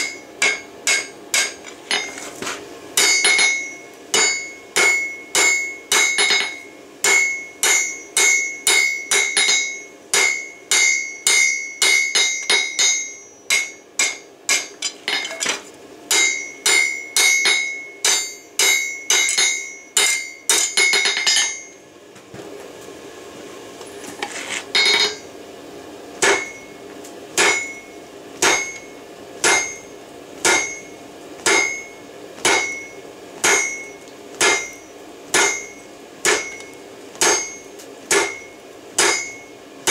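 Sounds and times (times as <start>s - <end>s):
hammer ringing on anvil: 0.0s - 2.2s, 3.0s - 21.8s, 24.7s - 25.3s, 26.2s - 26.8s, 27.4s - 39.9s.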